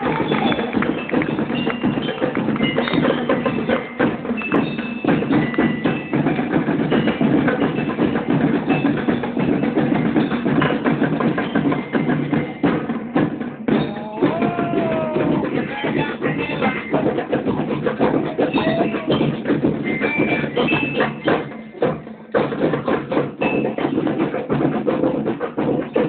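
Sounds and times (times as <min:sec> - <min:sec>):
fast marching drum beat: 0:00.0 - 0:26.0.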